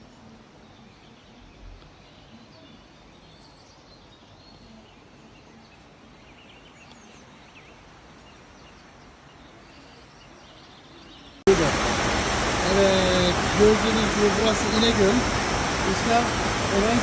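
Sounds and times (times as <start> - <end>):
faint birds chirping: 0.0 - 17.0
steady background hiss: 0.0 - 17.0.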